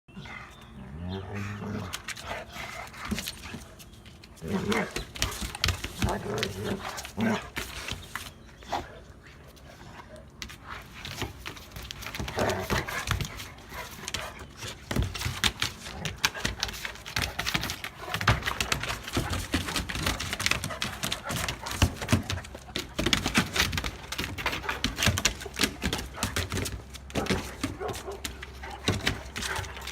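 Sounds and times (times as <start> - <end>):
paws scrabbling on hard floor: 1.6 - 8.5, 9.8 - 29.9.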